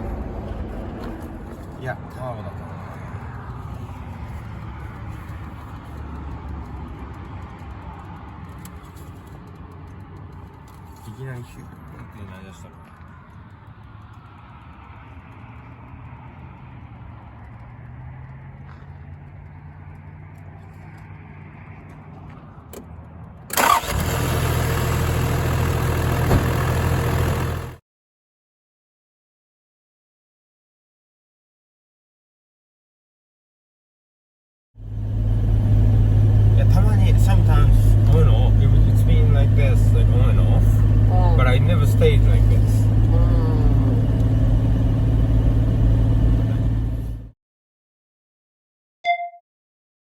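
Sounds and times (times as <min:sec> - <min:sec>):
car engine and road rumble: 0:00.0 - 0:27.8, 0:34.8 - 0:47.4.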